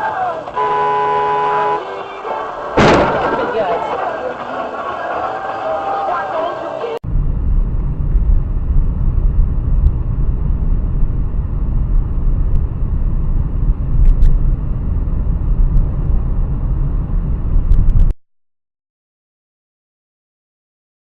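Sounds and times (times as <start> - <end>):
road and engine rumble: 0.0 - 18.1.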